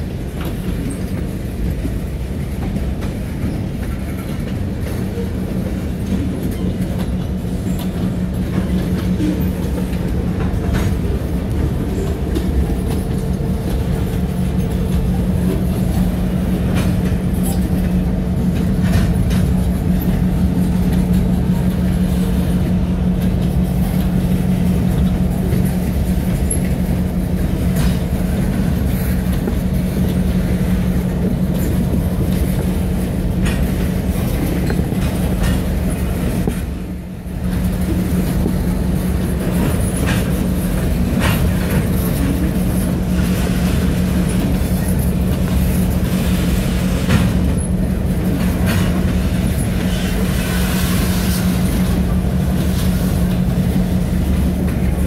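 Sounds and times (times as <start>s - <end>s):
diesel locomotive engine hum: 0.0s - 55.0s
train wheels clicking over joints: 0.0s - 55.0s.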